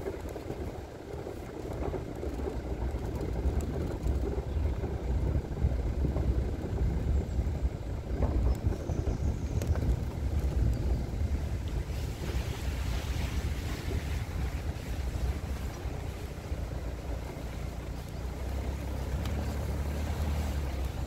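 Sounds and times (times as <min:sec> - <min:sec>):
vehicle engine and tyre rumble: 0:00.0 - 0:21.0
wind noise on microphone: 0:00.0 - 0:21.0.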